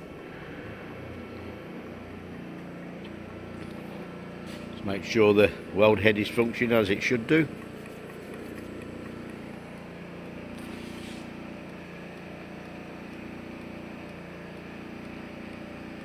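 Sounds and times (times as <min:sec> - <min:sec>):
welding machine electrical hum: 0:00.0 - 0:16.0.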